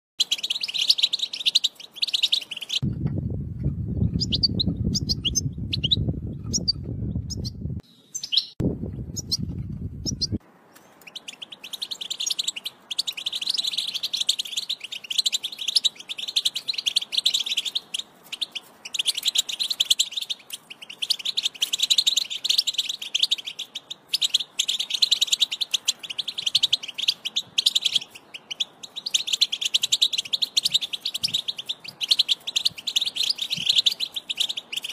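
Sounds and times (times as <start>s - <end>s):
goldfinch twittering song: 0.2s - 2.9s, 4.0s - 34.9s.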